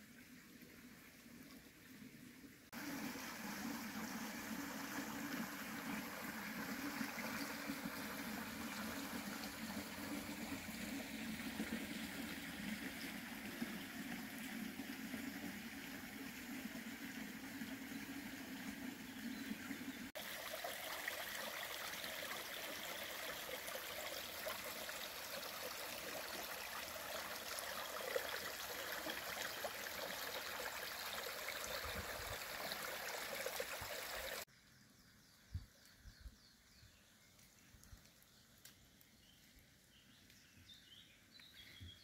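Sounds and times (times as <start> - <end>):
brook trickling over stones: 0.0 - 34.5.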